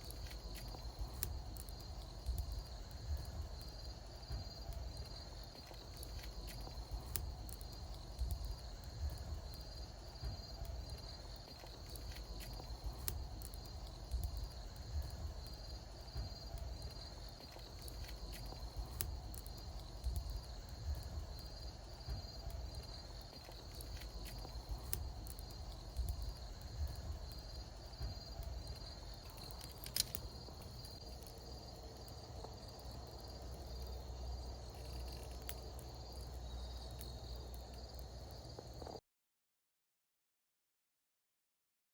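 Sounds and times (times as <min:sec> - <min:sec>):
bonfire crackling and popping: 0:00.0 - 0:39.0
insects chirping: 0:00.0 - 0:39.0.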